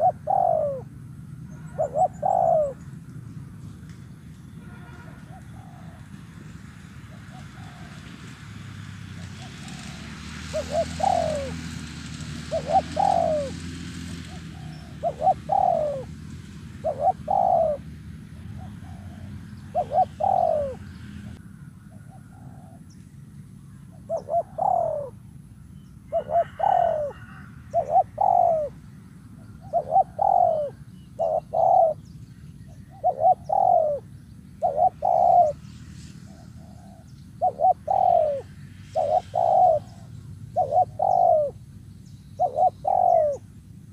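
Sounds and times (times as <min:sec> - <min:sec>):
dove cooing: 0:00.0 - 0:03.0, 0:05.2 - 0:06.2, 0:07.0 - 0:08.2, 0:09.2 - 0:22.9, 0:23.9 - 0:25.3, 0:26.0 - 0:28.8, 0:29.4 - 0:41.6, 0:42.4 - 0:43.6.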